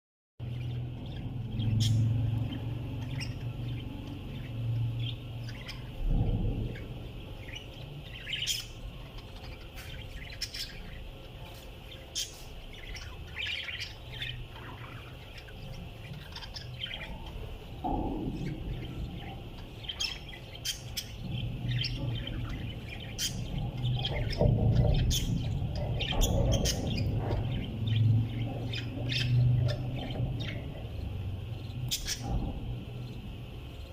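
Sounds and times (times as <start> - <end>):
low hum: 0.4 - 33.9
parrots chirping and squawking: 0.5 - 33.9.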